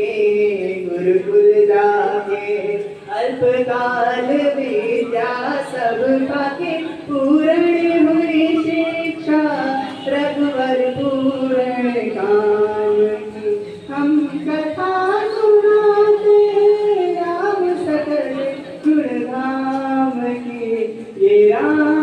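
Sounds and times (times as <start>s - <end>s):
person singing into a microphone: 0.0s - 22.0s.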